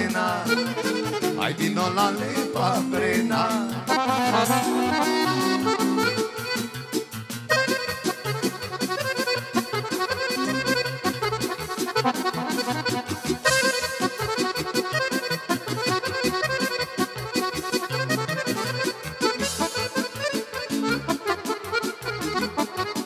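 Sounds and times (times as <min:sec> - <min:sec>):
accordion melody: 0:00.0 - 0:23.0
folk band playing fast dance music: 0:00.0 - 0:23.0.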